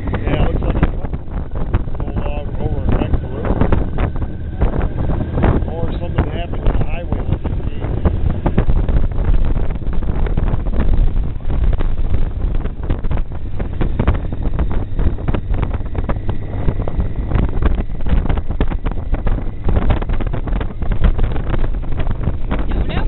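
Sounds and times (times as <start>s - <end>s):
motorcycle engine rumble: 0.0s - 23.0s
road noise: 0.0s - 23.0s
wind buffeting microphone: 0.0s - 23.0s.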